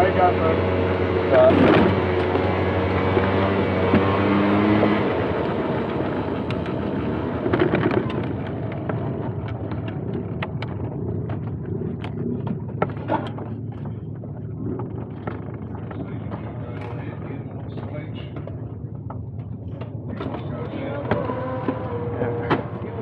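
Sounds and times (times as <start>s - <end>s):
rushing rumble: 0.0s - 23.0s
vehicle low hum: 0.0s - 23.0s.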